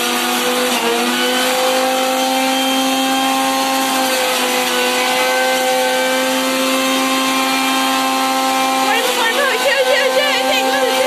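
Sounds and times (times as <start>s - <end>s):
juicer motor whining: 0.0s - 11.0s.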